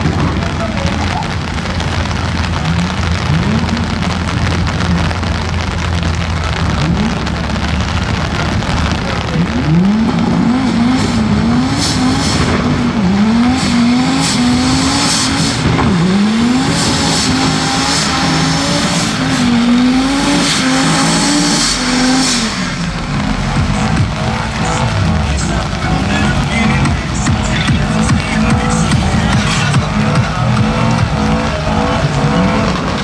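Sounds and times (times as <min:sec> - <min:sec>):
car engine revving: 0:00.0 - 0:33.0
loud steady rush: 0:00.0 - 0:33.0.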